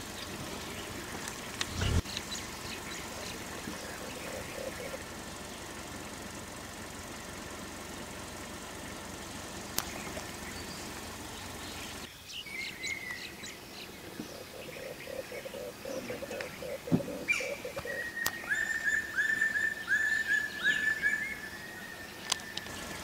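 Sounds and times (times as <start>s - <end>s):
forest birds chirping: 0.0s - 23.0s.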